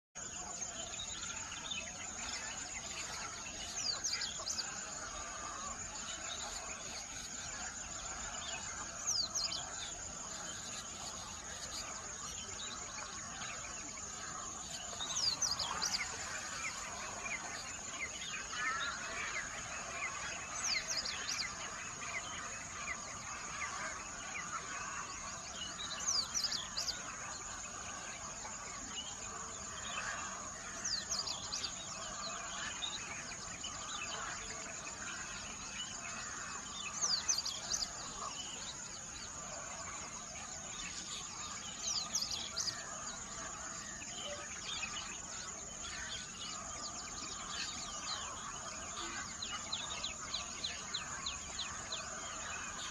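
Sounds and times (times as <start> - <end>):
songbirds chirping and singing: 0.2 - 52.9.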